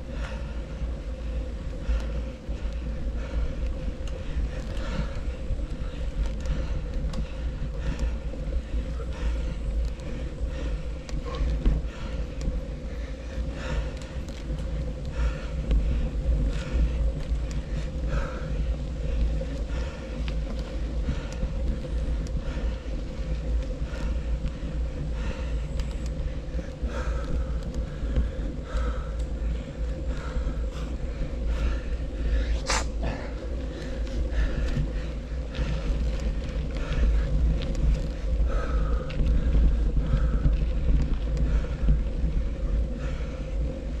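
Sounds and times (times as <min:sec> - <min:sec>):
bike clicks and rattles: 0:00.0 - 0:44.0
bike tyres on rough ground: 0:00.0 - 0:44.0
wind noise on microphone: 0:00.0 - 0:44.0.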